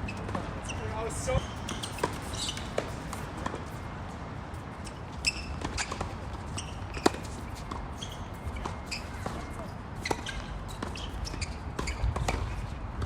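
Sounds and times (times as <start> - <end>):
short high squeaks: 0.0 - 3.2, 4.8 - 12.6
tennis balls struck and bouncing: 0.1 - 3.8, 5.2 - 13.0.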